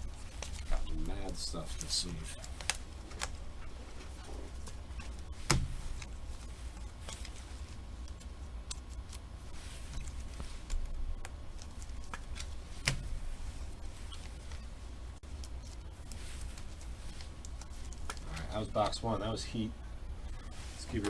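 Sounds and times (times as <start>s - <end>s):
cards sliding into plastic sleeves: 0.2s - 19.2s, 20.5s - 21.0s.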